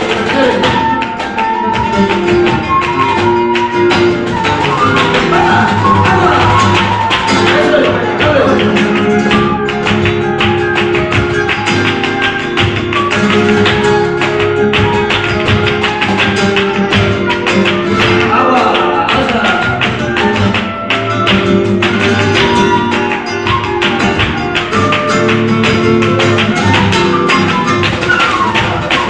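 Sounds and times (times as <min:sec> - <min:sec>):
flamenco guitar: 0:00.0 - 0:29.0
held melody notes: 0:00.0 - 0:29.0.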